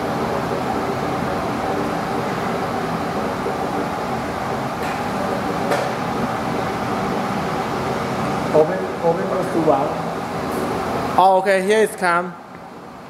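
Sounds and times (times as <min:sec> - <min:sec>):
pump running: 0:00.0 - 0:11.3
water and air rushing through pipes: 0:00.0 - 0:13.0.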